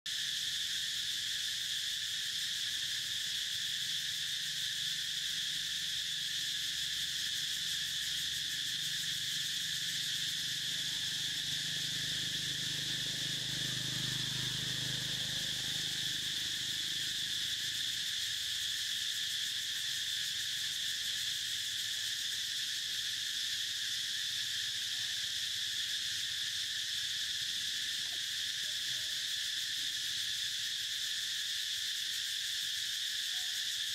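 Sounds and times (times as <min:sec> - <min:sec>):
insects droning: 0:00.1 - 0:33.9.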